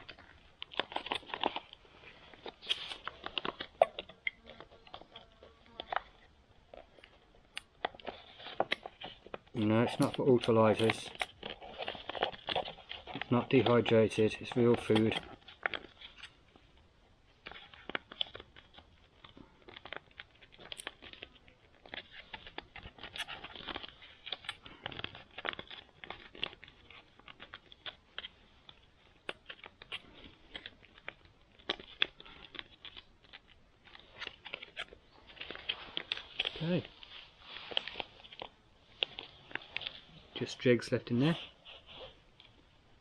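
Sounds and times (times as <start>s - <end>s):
plastic pouch crinkling and tearing: 0.0s - 43.0s.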